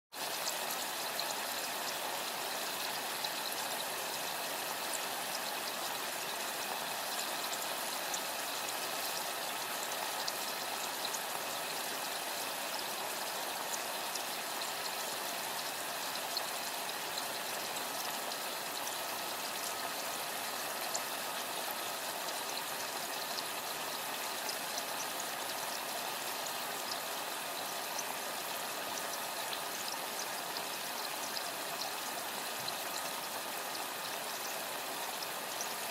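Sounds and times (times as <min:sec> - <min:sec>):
boiling liquid bubbling: 0:00.1 - 0:35.9.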